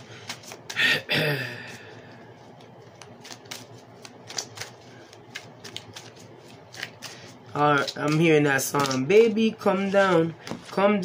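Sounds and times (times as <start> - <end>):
cards being shuffled: 0.0 - 0.8, 1.6 - 11.0.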